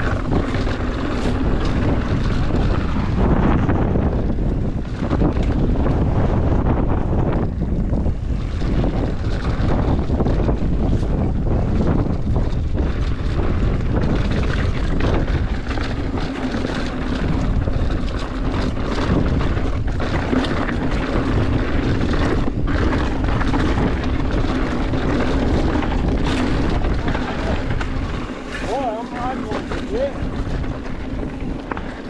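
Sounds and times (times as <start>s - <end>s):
bike knocks and rattles: 0.0s - 32.0s
tyres rolling over rock: 0.0s - 32.0s
wind on microphone: 0.0s - 32.0s.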